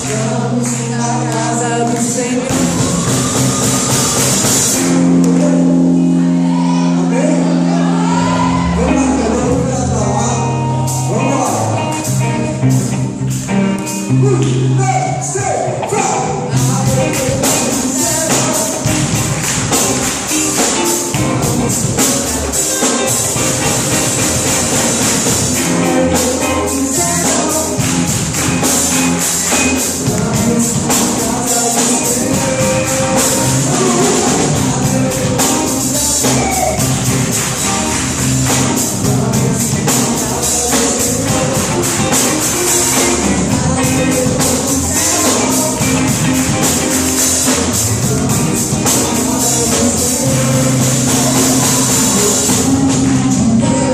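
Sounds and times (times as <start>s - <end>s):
person singing: 0.0s - 13.3s, 14.0s - 53.9s
band playing: 0.0s - 53.9s.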